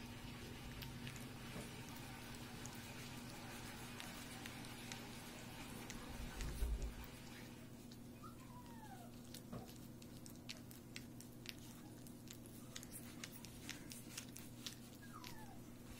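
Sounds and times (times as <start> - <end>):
puppy chewing and lapping: 0.0 - 15.9
puppy whining: 0.3 - 15.9.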